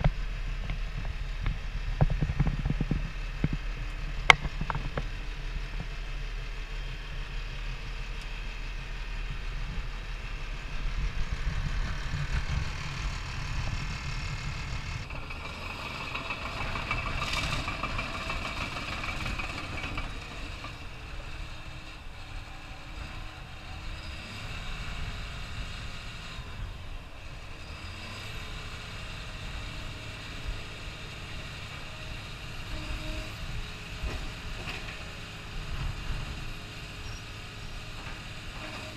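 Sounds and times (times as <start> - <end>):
bulldozer diesel engine rumble: 0.0 - 38.9
high engine whine: 0.0 - 38.9.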